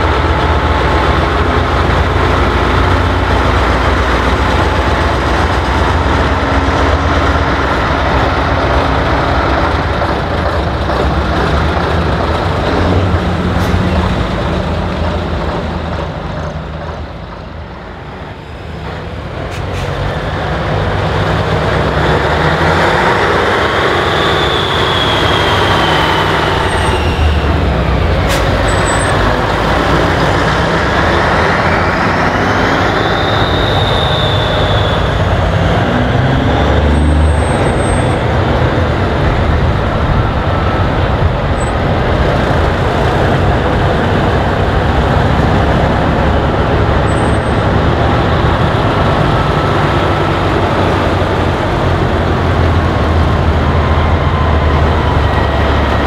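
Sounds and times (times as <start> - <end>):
diesel truck engines rumbling: 0.0 - 56.0.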